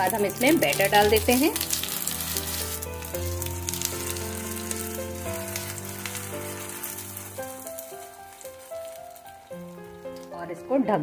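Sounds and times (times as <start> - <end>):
batter sizzling in hot oil: 0.0 - 10.4
gentle background melody: 0.0 - 11.0.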